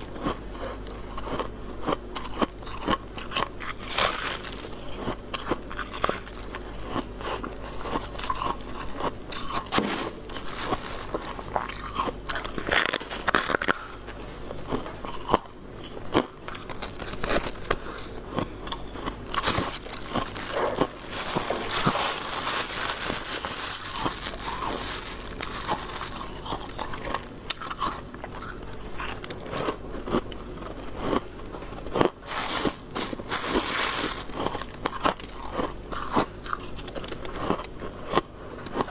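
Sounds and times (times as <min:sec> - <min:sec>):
chewing crunchy ice frost: 0:00.0 - 0:38.9.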